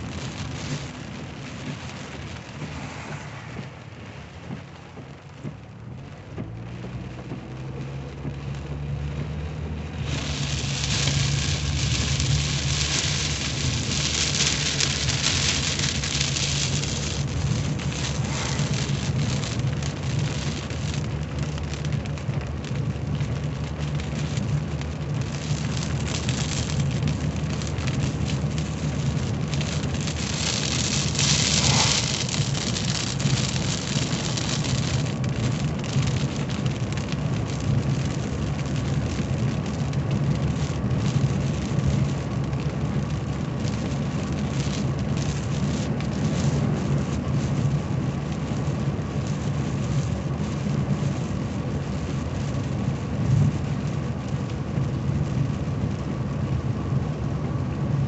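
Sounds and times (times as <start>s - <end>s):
car engine hum: 0.0s - 58.0s
heavy rain on windshield and roof: 0.0s - 58.0s
tyres on wet road: 0.0s - 58.0s.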